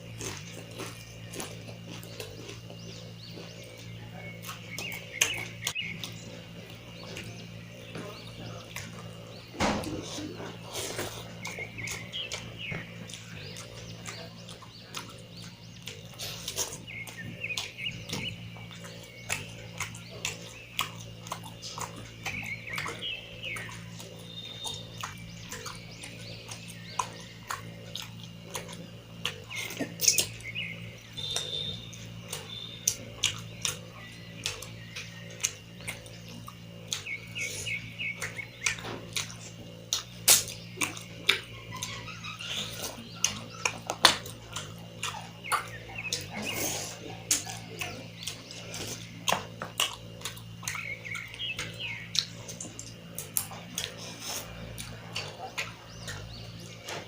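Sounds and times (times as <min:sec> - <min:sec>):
chewing and lip-smacking: 0:00.0 - 0:57.0
low steady hum: 0:00.0 - 0:57.0.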